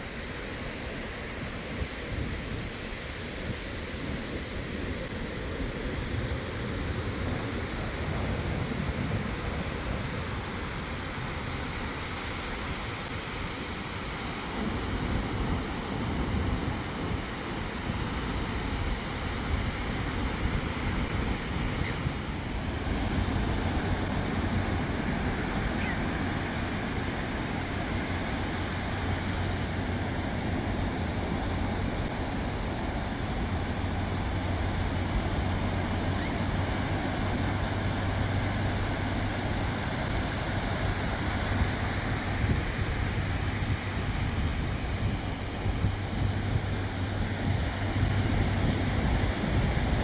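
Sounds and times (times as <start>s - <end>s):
ocean waves breaking on beach: 0.0s - 50.0s.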